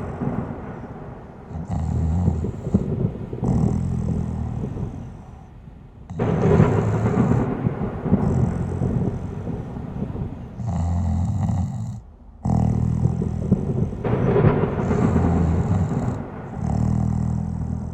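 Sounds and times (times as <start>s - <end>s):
person snoring: 0.0s - 0.4s, 1.5s - 5.5s, 6.1s - 17.9s
quiet breaths: 0.0s - 17.9s.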